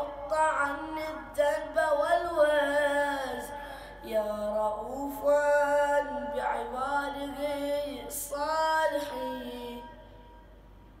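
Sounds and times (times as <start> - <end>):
boy chanting melodically: 0.0 - 10.2.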